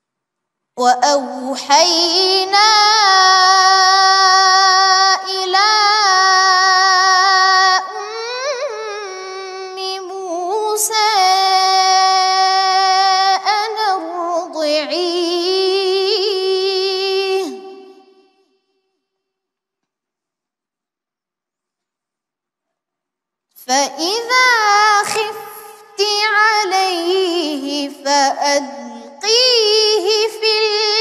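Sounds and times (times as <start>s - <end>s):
boy chanting melodically: 0.8s - 18.2s, 23.6s - 31.0s.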